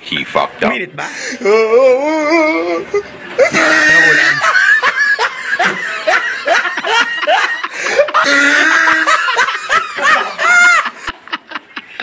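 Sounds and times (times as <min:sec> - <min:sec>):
people laughing: 0:01.1 - 0:12.0.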